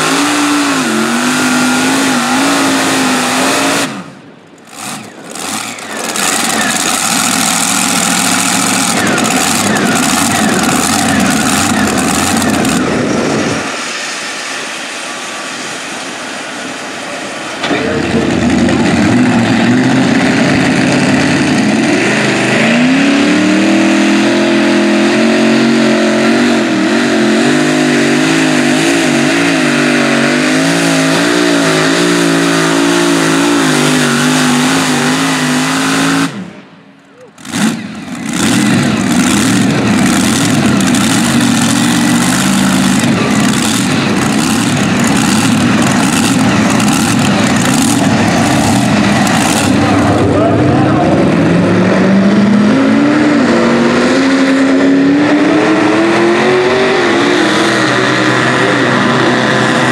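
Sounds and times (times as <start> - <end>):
pulling tractor engines at full throttle: 0.0 - 59.9.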